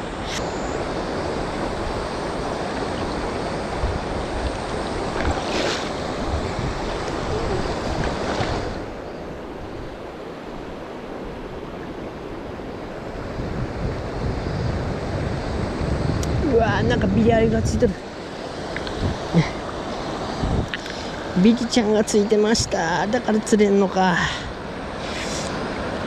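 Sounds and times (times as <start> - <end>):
river water flowing: 0.0 - 13.4, 16.5 - 26.0
wind on microphone: 0.0 - 26.0.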